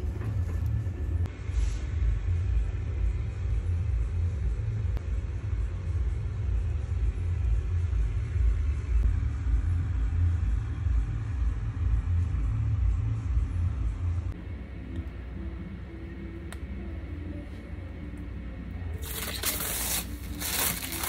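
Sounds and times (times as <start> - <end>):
low uneven rumble: 0.0 - 19.2.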